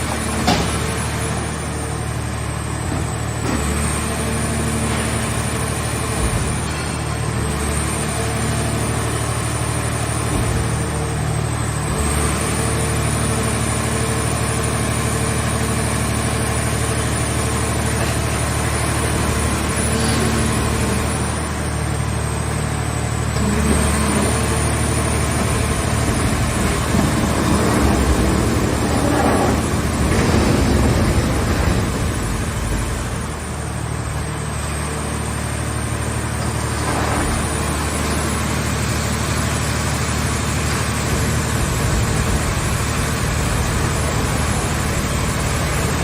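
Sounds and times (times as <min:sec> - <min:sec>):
engine and hydraulic unit running: 0:00.0 - 0:46.0.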